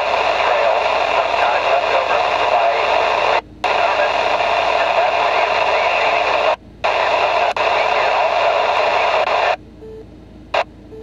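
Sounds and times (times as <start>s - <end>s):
radio static hissing: 0.0s - 9.6s.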